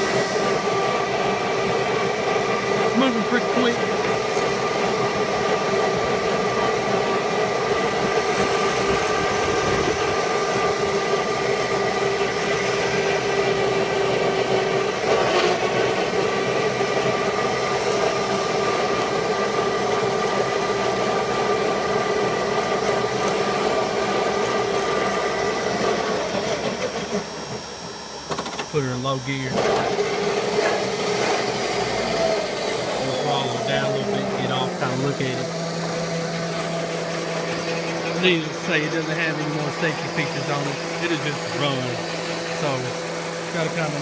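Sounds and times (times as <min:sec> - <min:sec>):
electric motor whine: 0:00.0 - 0:44.0.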